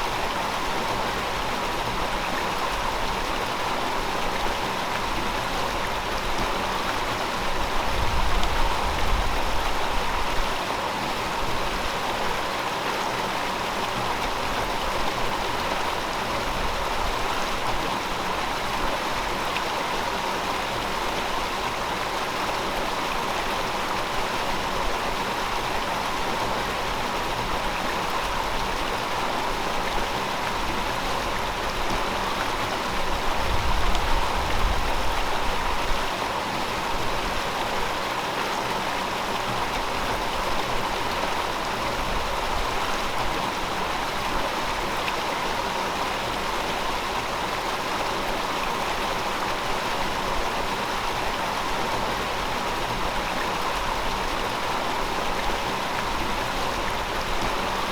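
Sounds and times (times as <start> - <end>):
river flowing: 0.0 - 57.9.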